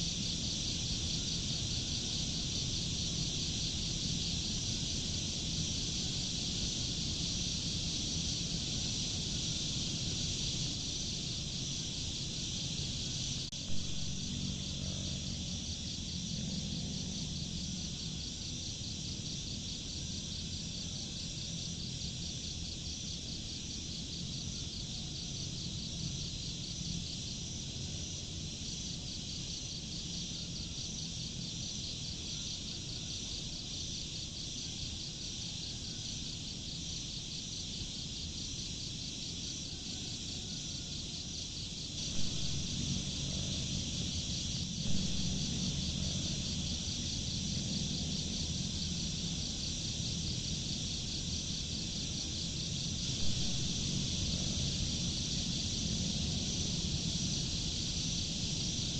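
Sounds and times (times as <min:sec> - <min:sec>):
insects chirping: 0:00.0 - 0:58.9
low steady background noise: 0:00.0 - 0:58.9.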